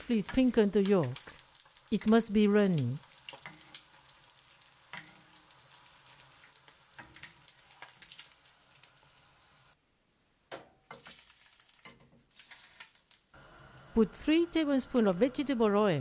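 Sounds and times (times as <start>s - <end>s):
egg sizzling in oil: 0.0s - 9.8s, 10.9s - 14.0s.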